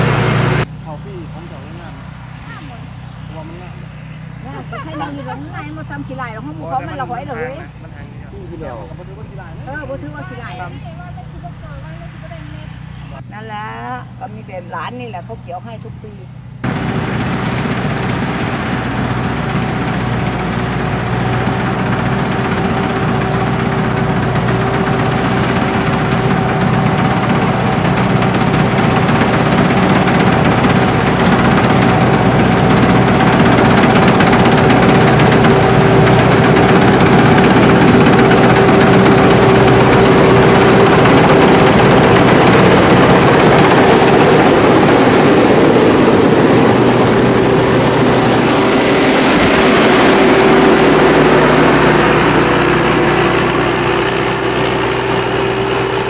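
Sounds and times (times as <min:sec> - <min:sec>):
combine harvester running: 0:00.0 - 0:56.0
steady machine whine: 0:00.0 - 0:56.0.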